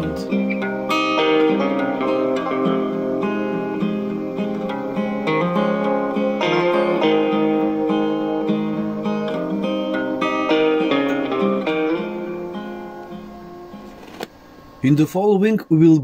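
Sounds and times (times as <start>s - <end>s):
clean plucked guitar music: 0.0s - 14.8s.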